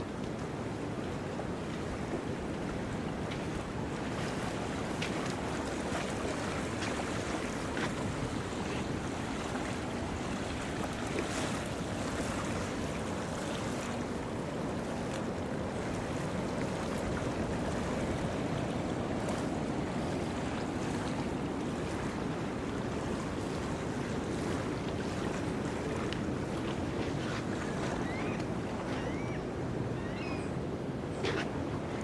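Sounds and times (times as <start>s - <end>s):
surf on a beach: 0.0s - 32.0s
wind: 0.0s - 32.0s.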